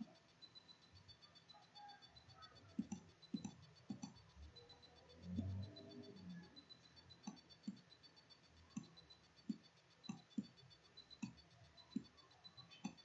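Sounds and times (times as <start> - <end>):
faint clicks: 1.0 - 13.0.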